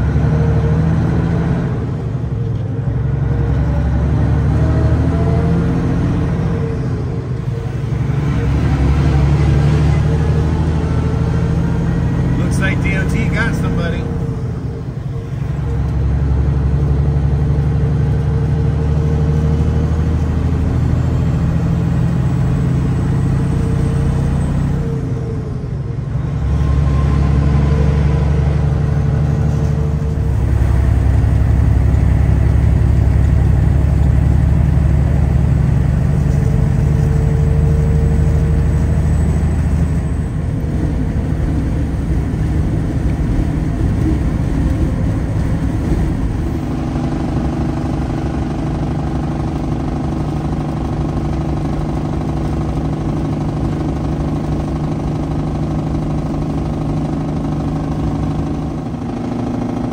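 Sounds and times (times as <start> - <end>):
truck engine humming: 0.0 - 59.9.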